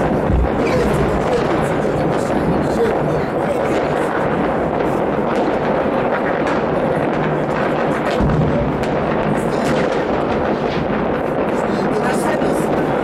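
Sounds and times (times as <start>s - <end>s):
fireworks crackling: 0.0s - 13.0s
heavy low boom: 0.0s - 13.0s.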